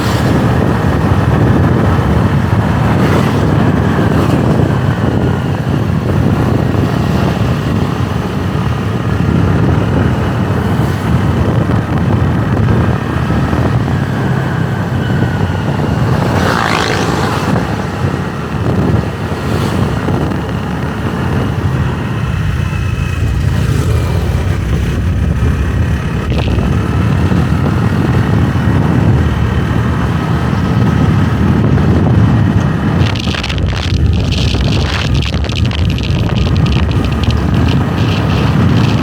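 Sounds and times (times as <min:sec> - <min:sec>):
motorbike engine running: 0:00.0 - 0:39.0
wind noise on microphone: 0:00.0 - 0:39.0.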